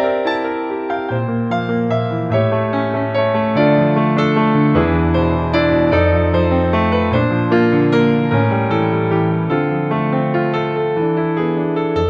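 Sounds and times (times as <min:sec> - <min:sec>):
soft keyboard music: 0:00.0 - 0:12.0.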